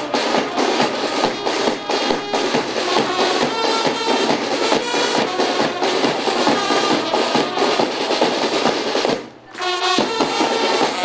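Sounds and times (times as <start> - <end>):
marching brass band playing: 0.0 - 11.0.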